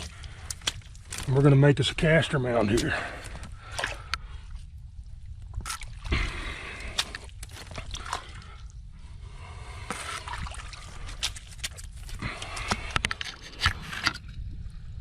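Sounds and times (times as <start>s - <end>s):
water sloshing and splashing: 0.0s - 14.4s.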